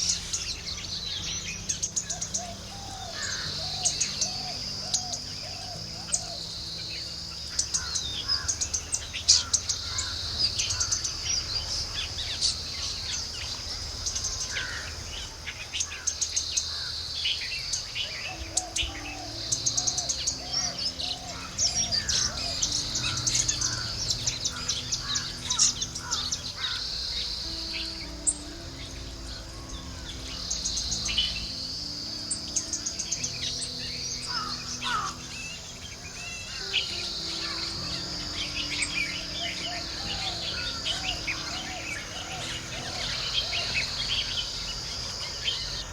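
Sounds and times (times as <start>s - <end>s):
shrill insect trill: 0.0s - 45.9s
wild birds chirping: 0.0s - 45.9s.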